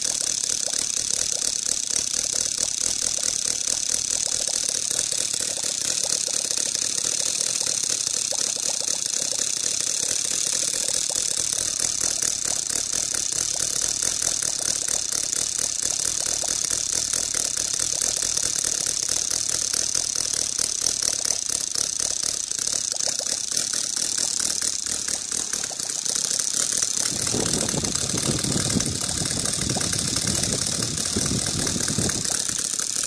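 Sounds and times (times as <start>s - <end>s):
aero engine rattling: 0.0s - 33.0s.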